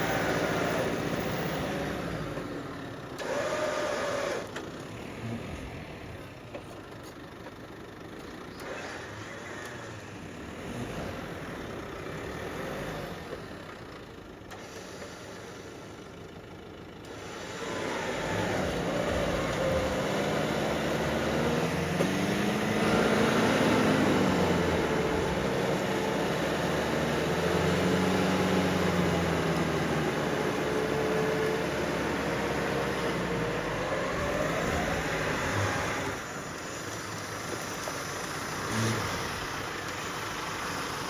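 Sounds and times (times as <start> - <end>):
vehicle engine revving: 0.0 - 6.7, 8.5 - 15.9, 17.0 - 41.0.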